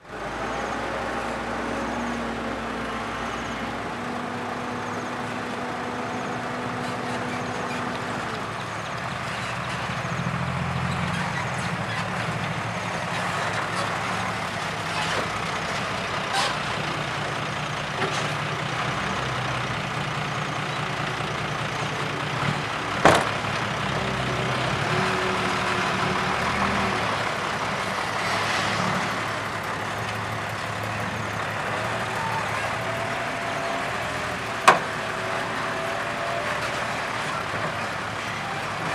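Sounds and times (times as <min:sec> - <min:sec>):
heavy diesel engines: 0:00.0 - 0:38.9.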